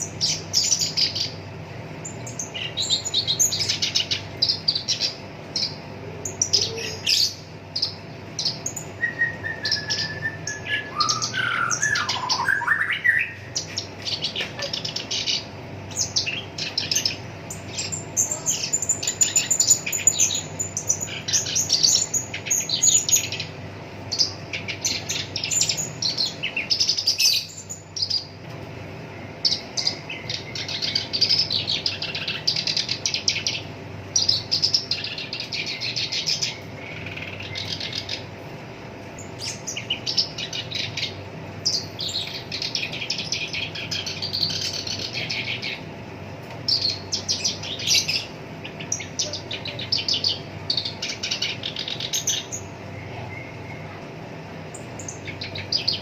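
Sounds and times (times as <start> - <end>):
reed warbler singing: 0.0 - 28.4, 29.2 - 38.4, 39.0 - 46.0, 46.6 - 54.0, 54.6 - 56.0
faint steady hum: 0.0 - 56.0.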